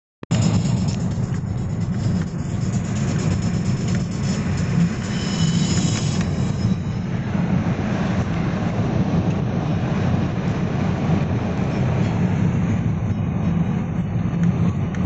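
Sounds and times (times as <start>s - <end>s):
vehicle road and engine rumble: 0.3s - 15.0s
wind noise: 0.3s - 15.0s.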